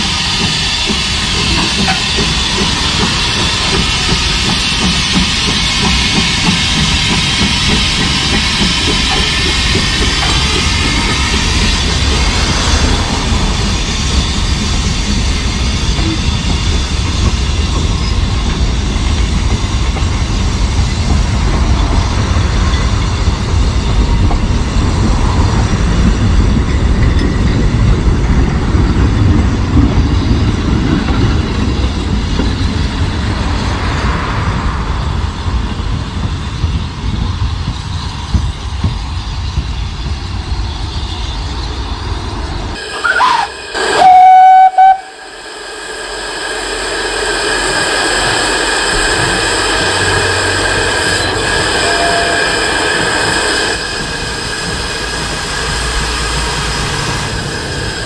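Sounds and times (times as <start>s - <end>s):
train wheels clattering over rail joints: 0.0s - 42.4s, 46.9s - 58.0s.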